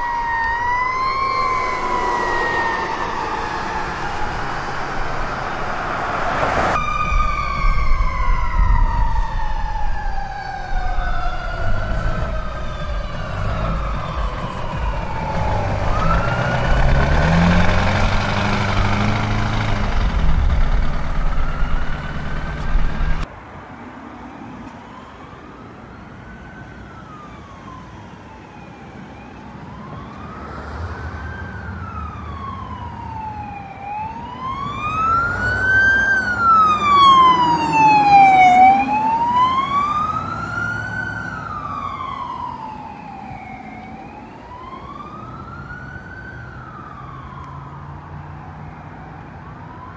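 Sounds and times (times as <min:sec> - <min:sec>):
emergency vehicle siren wailing: 0:00.0 - 0:23.3, 0:23.9 - 0:49.9
fire truck engine and road noise: 0:00.0 - 0:49.9.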